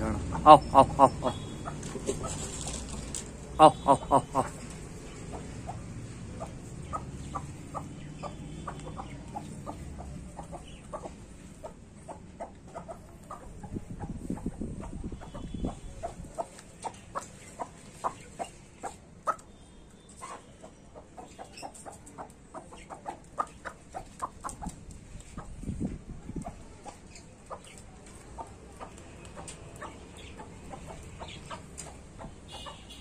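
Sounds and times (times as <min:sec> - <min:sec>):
chickens clucking: 0:00.0 - 0:19.5, 0:20.1 - 0:33.0
chickens pecking feed on concrete: 0:00.3 - 0:19.5, 0:20.1 - 0:32.8.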